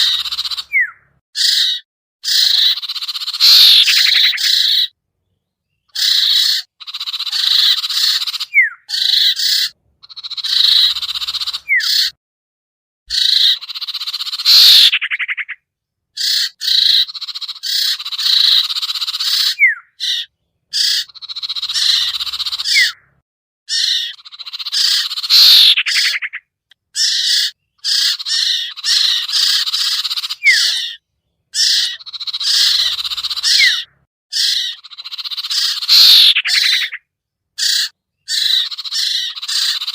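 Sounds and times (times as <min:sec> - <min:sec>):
bird chattering and chirping: 0:00.0 - 0:12.2, 0:13.1 - 0:15.6, 0:16.2 - 0:39.9.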